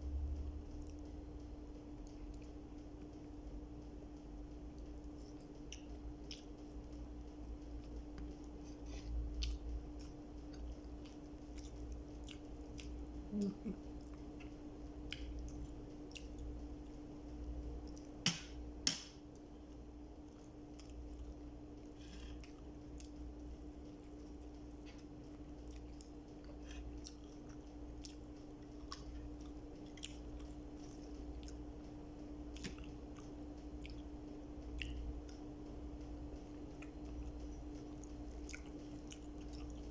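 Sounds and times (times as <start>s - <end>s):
chewing and biting food: 4.7s - 18.2s, 20.2s - 39.9s.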